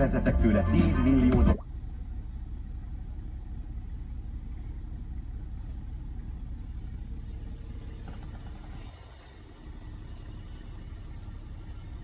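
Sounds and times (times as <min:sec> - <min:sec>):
car engine idling in cabin: 0:00.0 - 0:12.0.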